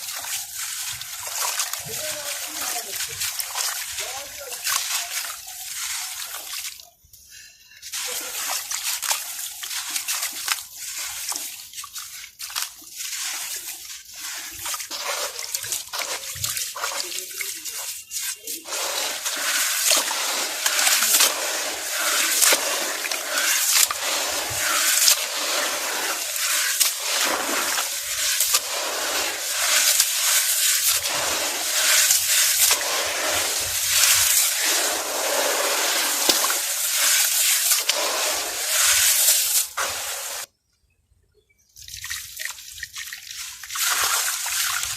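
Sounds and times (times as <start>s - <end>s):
water sloshing and trickling: 0.0s - 40.5s, 41.6s - 44.9s.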